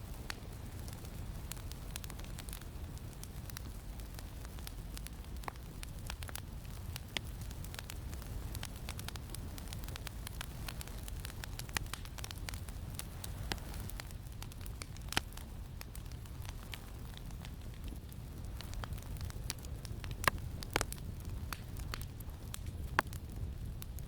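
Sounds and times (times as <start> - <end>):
campfire crackling and popping: 0.0 - 24.0
low rumble of wind: 0.0 - 24.0.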